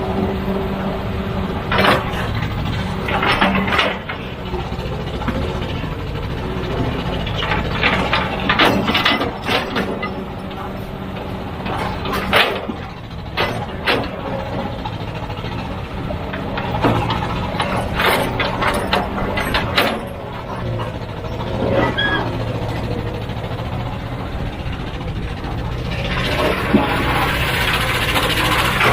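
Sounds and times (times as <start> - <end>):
diesel machinery engine drone: 0.0 - 28.9
metal clanks and scrapes: 1.7 - 23.6, 25.3 - 28.9.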